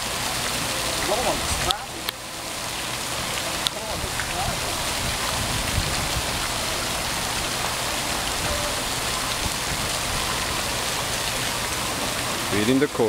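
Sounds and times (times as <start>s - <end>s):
water splashing in pond: 0.0s - 13.0s.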